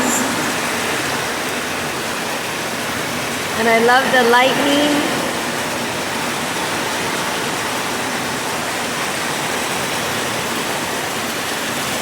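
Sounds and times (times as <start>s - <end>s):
heavy rain pouring: 0.0s - 12.0s
runoff water flowing: 0.0s - 12.0s.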